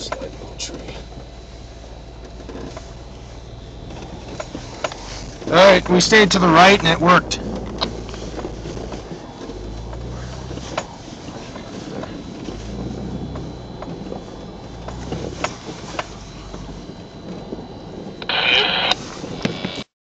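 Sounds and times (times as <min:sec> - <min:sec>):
knocks and rattles of vehicle body: 0:00.0 - 0:18.2
vehicle engine rumbling: 0:00.0 - 0:19.9.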